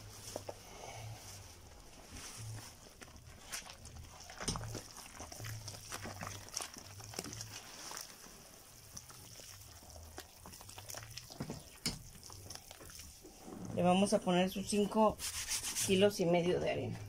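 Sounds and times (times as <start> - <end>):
hands squelching dough: 0.0 - 17.0.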